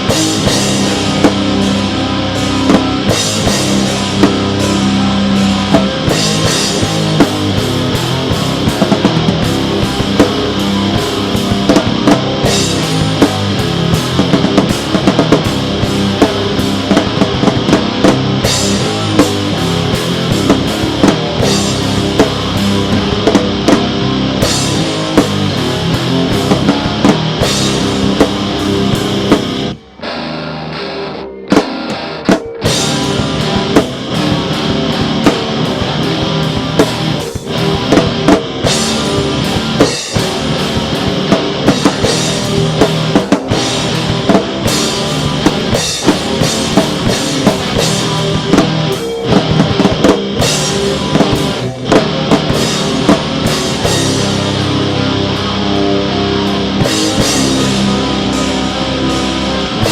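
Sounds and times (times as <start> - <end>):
rock music: 0.0 - 59.9.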